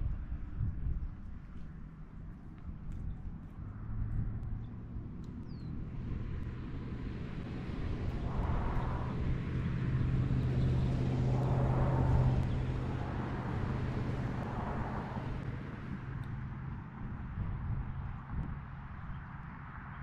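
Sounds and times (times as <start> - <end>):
distant vehicle engine drone: 1.3 - 20.0.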